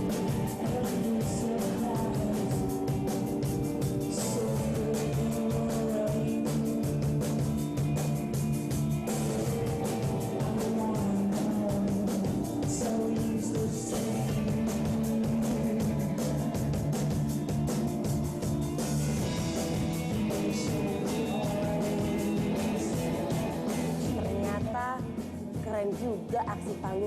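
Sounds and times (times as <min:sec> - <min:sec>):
fast drumbeat: 0:00.0 - 0:27.0
guitars: 0:00.0 - 0:27.0.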